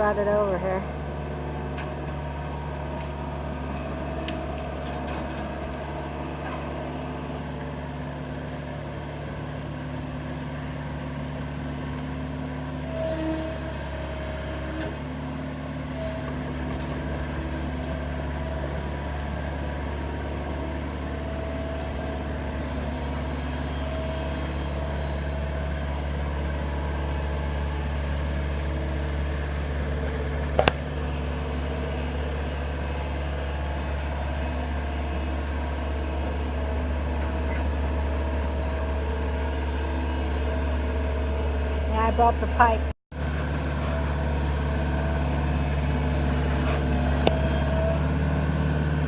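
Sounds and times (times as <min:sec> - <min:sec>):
excavator engine humming: 0:00.0 - 0:49.0.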